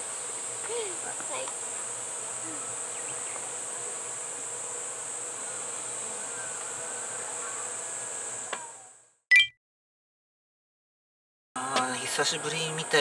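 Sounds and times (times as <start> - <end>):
insects chorus: 0.0 - 9.0, 11.6 - 13.0.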